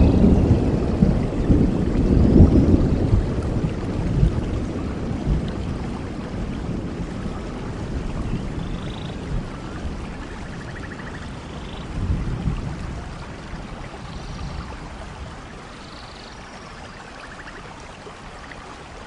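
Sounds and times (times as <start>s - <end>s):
low thunder rumble: 0.0s - 15.8s
steady rain hiss: 0.0s - 19.0s.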